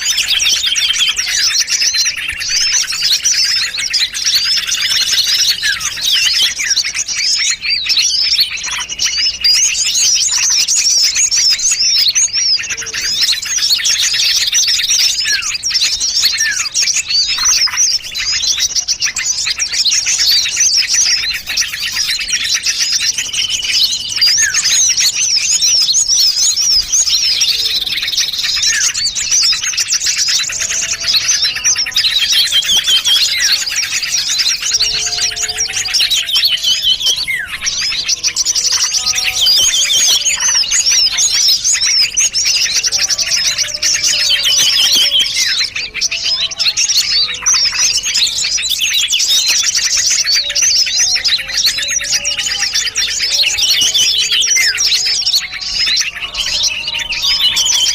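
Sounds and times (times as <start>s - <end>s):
chorus of small songbirds: 0.0s - 57.9s.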